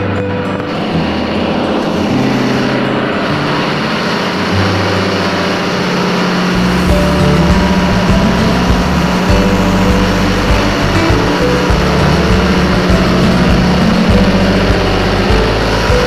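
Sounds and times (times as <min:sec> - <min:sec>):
engine room machinery din: 0:00.0 - 0:16.0.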